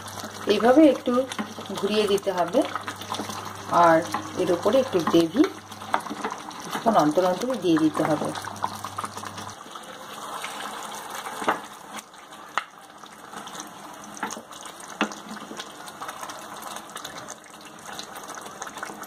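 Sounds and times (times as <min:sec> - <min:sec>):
gravy simmering and bubbling: 0:00.0 - 0:19.0.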